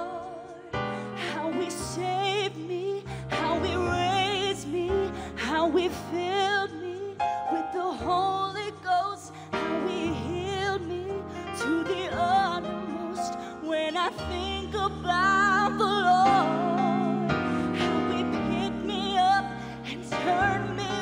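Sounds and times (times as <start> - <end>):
woman singing gospel song: 0.0 - 21.0.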